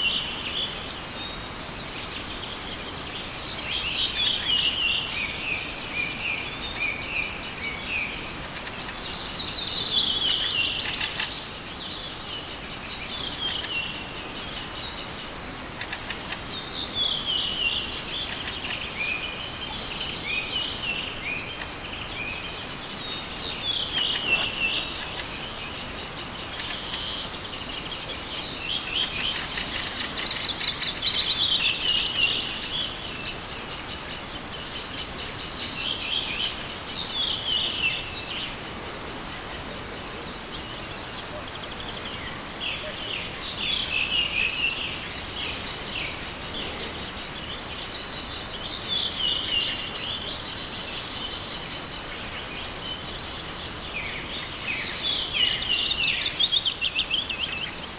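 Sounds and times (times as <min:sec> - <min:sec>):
songbird singing: 0:00.0 - 0:57.9
steady background hiss: 0:00.0 - 0:57.9.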